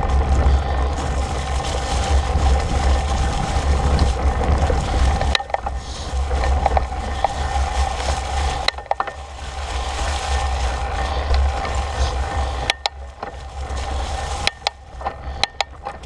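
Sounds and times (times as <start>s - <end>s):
bike rattling: 0.0s - 16.0s
bike tyres on dry leaves: 0.0s - 16.0s
wind rumbling on microphone: 0.0s - 16.0s.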